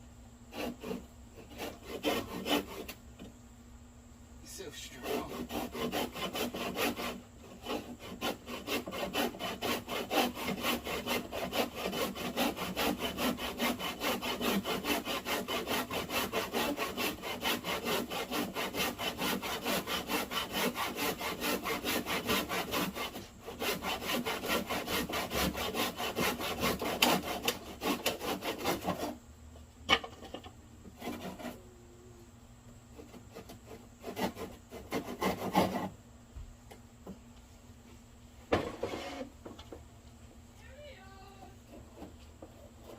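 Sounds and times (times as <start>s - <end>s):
hand saw cutting wood: 0.5s - 3.0s, 4.5s - 29.2s, 29.9s - 31.6s, 32.9s - 36.0s, 38.6s - 39.3s, 41.0s - 42.9s.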